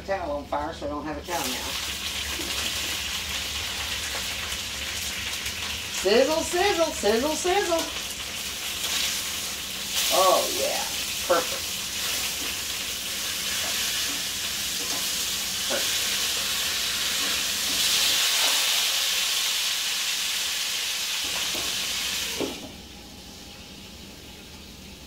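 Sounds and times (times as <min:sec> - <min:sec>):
chicken sizzling in a hot pan: 0:01.3 - 0:22.7.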